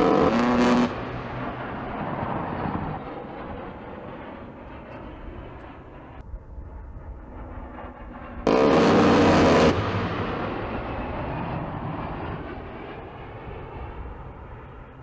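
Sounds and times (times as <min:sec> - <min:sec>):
jet gun run rumble: 0:00.0 - 0:15.0.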